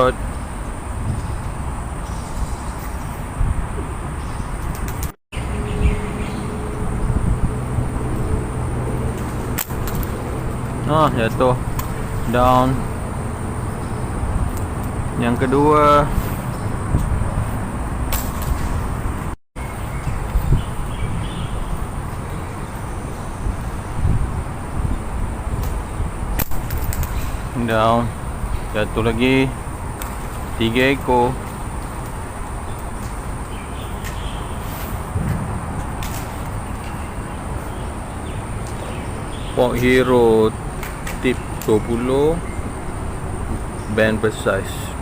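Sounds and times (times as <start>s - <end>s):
wind rumble on microphone: 0.0s - 45.0s.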